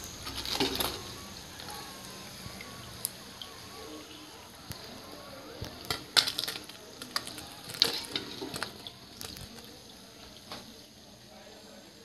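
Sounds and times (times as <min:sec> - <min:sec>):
oil crackling and popping: 0:00.0 - 0:11.7
pastry sizzling in hot oil: 0:00.0 - 0:12.0.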